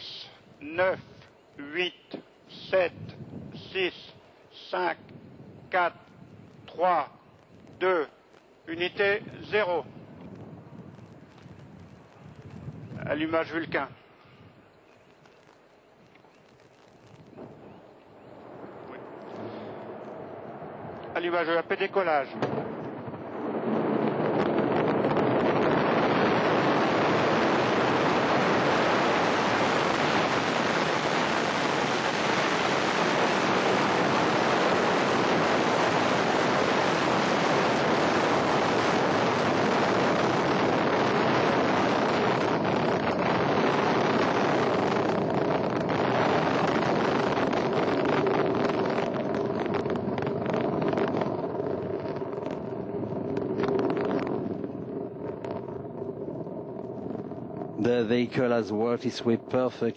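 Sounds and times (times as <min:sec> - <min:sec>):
rocket engines rumbling: 0:00.0 - 0:59.9.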